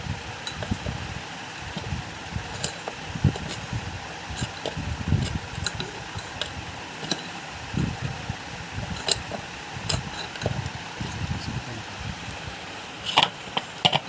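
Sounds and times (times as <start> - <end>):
fan parts clicking and knocking: 0.0 - 14.0
steady background hum: 0.0 - 14.0.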